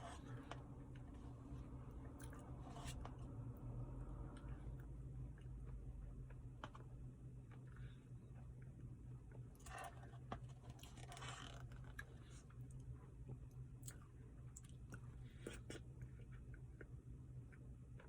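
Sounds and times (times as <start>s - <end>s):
soft chewing: 0.0s - 18.0s
steady low hum: 0.0s - 18.0s.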